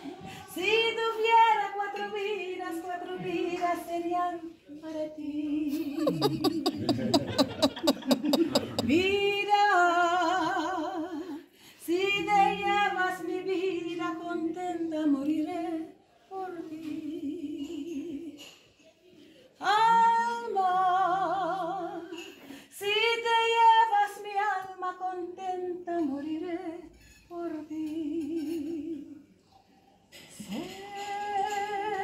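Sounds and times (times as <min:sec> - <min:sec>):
woman singing unaccompanied: 0:00.0 - 0:06.7, 0:08.8 - 0:18.4, 0:19.6 - 0:29.2, 0:30.4 - 0:32.0.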